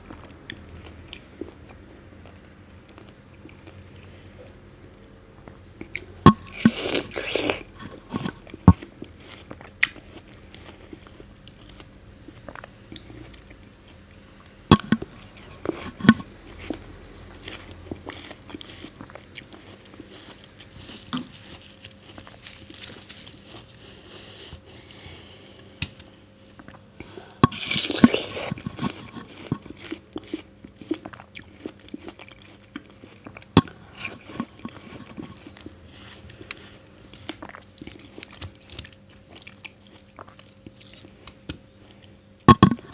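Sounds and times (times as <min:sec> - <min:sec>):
watermelon crunching and chewing: 0:00.0 - 0:42.9.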